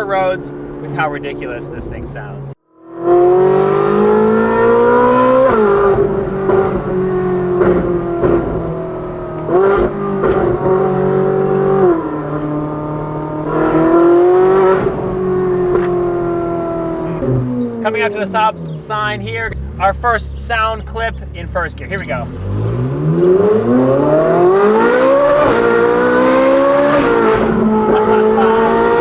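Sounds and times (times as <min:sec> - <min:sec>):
sports car engine while driving: 0:00.0 - 0:29.0.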